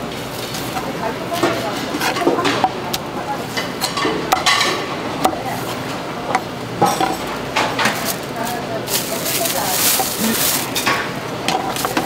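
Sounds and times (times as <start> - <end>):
steady noisy background: 0.0 - 12.0.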